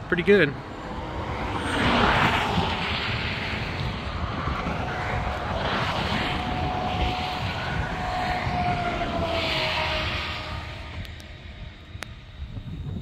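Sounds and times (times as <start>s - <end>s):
distant engine rumbling drone: 0.0s - 13.0s.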